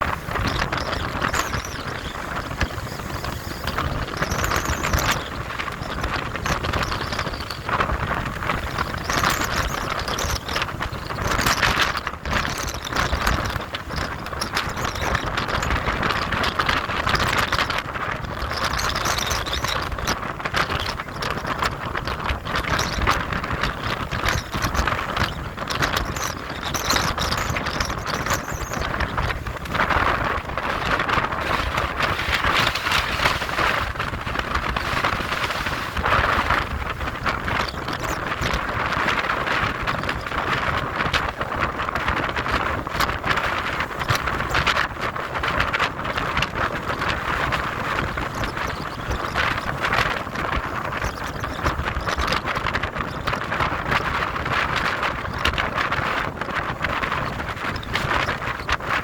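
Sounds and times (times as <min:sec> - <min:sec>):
rough sea rumble: 0:00.0 - 0:59.0
wind buffeting microphone: 0:00.0 - 0:59.0.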